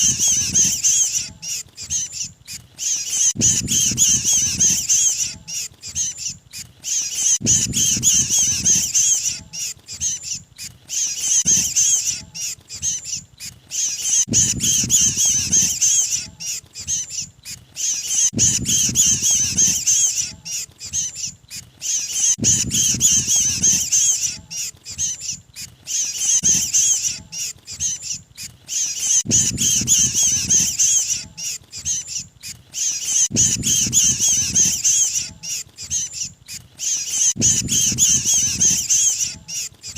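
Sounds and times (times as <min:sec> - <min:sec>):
bird squeaky chattering: 0:00.0 - 0:39.9.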